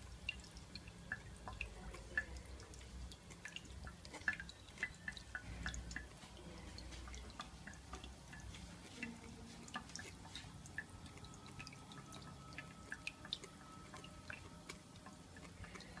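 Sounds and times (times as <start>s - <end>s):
water drips and splashes: 0.0s - 16.0s.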